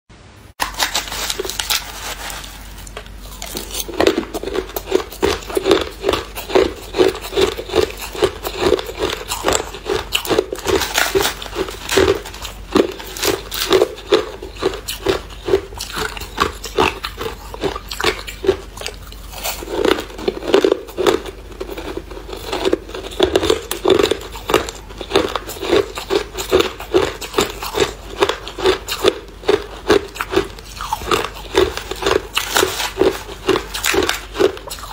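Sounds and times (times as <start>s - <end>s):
person chewing crunchy ice: 0.6s - 34.9s.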